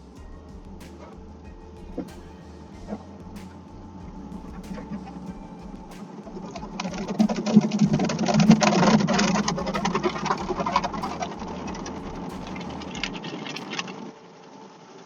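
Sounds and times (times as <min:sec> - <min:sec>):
water and brush patter: 0:00.0 - 0:14.1
mechanical hum: 0:00.0 - 0:15.0.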